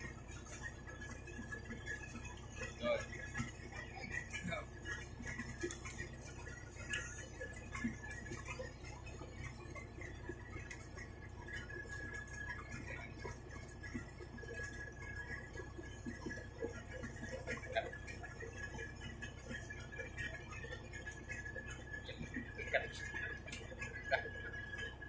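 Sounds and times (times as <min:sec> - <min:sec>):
boat engine low hum: 0:00.0 - 0:25.0
faint high whine: 0:00.0 - 0:25.0.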